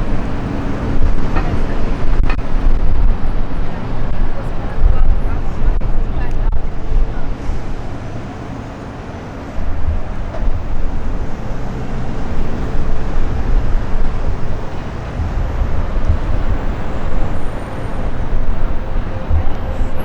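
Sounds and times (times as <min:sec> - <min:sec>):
street and traffic noise: 0:00.0 - 0:20.0
wind buffeting microphone: 0:00.0 - 0:20.0.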